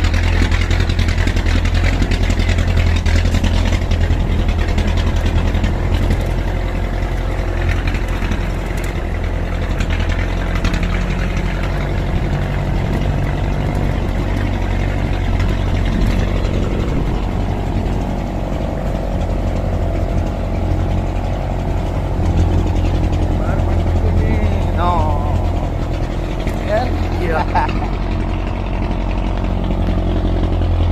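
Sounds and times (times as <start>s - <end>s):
vehicle engine running at low revs: 0.0s - 30.9s.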